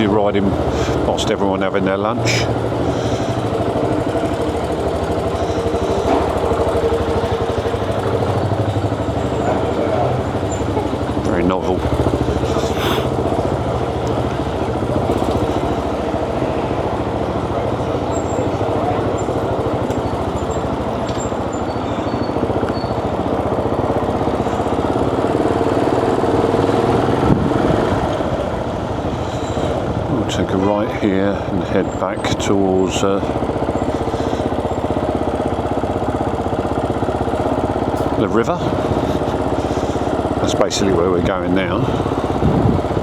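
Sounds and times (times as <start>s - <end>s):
motorcycle engine at low revs: 0.0s - 43.0s.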